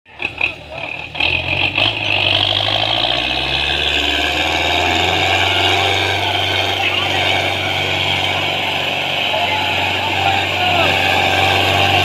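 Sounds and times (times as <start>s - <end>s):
tractor diesel engine running: 0.1s - 12.0s.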